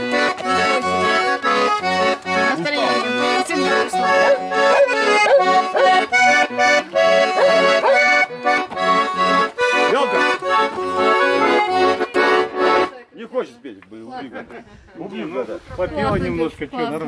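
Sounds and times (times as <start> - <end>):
accordion playing lively tune: 0.0 - 13.8.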